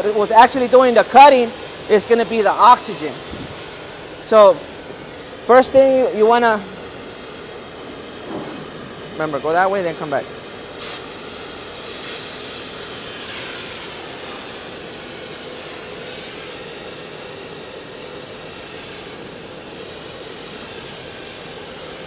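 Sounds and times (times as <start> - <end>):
cutting torch hissing: 0.0 - 22.0.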